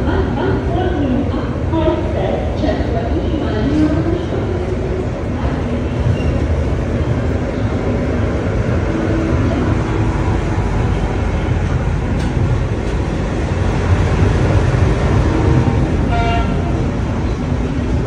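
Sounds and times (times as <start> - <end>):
train coaches rumbling: 0.0 - 18.0.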